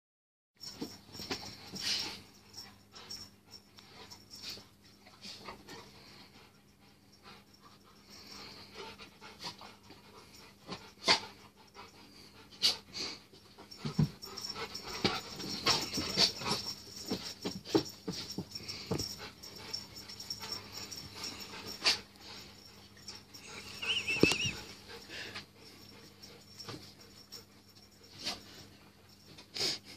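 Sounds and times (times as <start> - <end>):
dogs panting: 0.6 - 29.9.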